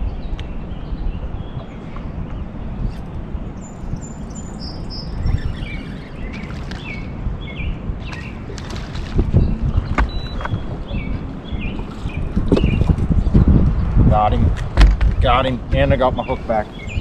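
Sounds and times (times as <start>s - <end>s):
small birds chirping: 0.0s - 13.9s, 16.1s - 17.0s
steady low rumble: 0.0s - 17.0s.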